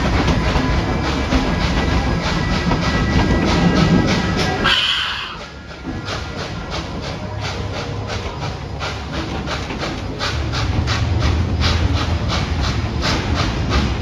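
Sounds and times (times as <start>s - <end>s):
steam locomotive chuffing: 0.0s - 14.0s
train rolling rumble: 0.0s - 14.0s.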